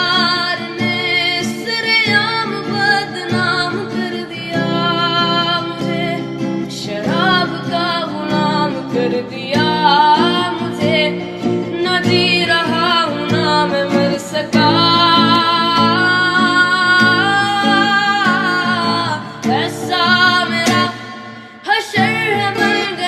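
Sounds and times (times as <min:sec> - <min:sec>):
guitar accompaniment: 0:00.0 - 0:23.0.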